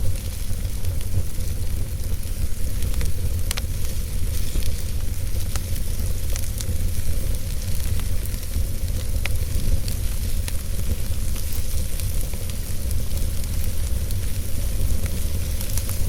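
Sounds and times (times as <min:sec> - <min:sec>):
low rumble of flames: 0:00.0 - 0:16.0
wood fire crackles and pops: 0:00.0 - 0:16.0.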